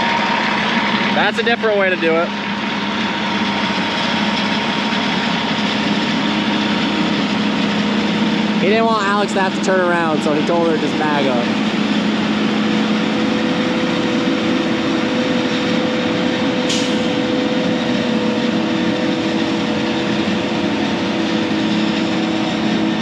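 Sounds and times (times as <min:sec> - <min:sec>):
diesel machinery engine drone: 0:00.0 - 0:23.0.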